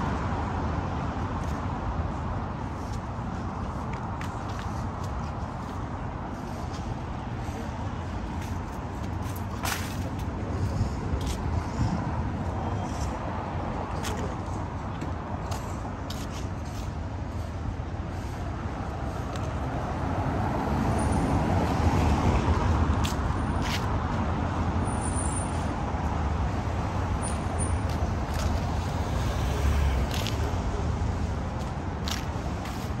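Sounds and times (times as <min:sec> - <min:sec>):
hum of traffic: 0:00.0 - 0:33.0.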